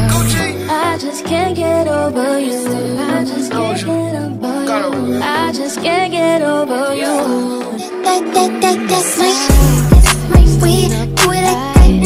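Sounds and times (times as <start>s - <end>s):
soft electronic backing music: 0.0s - 12.0s
woman singing: 0.0s - 12.0s.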